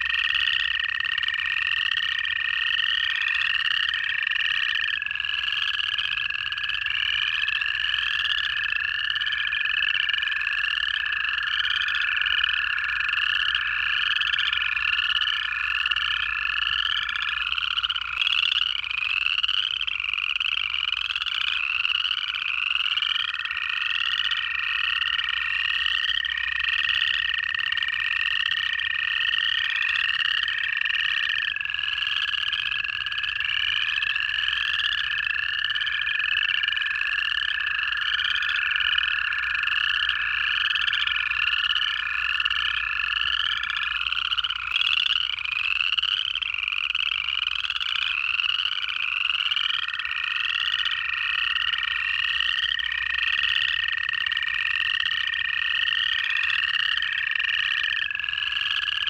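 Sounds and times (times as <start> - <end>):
chorus frogs trilling: 0.0 - 59.0
toad long trills: 0.0 - 59.0.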